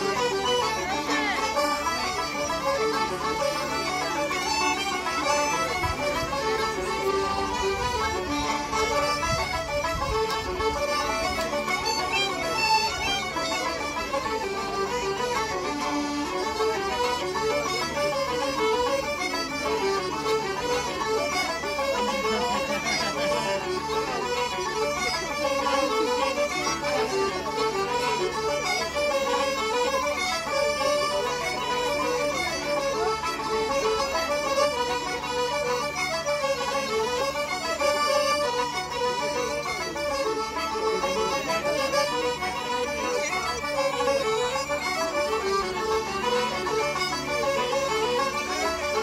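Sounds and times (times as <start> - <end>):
accordion: 0.0 - 49.0
banjo: 0.0 - 49.0
fiddle: 0.0 - 49.0.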